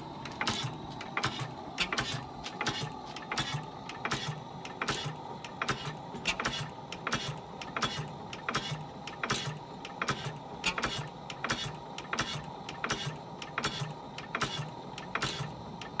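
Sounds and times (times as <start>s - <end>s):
oil engine clicking: 0.2s - 16.0s.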